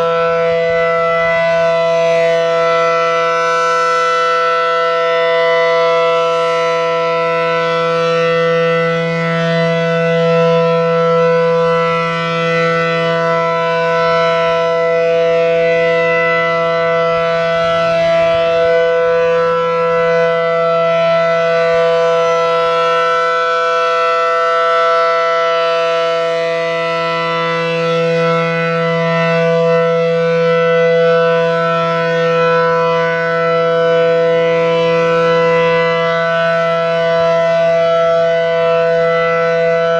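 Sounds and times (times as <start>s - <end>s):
warning siren chord: 0.0s - 39.9s.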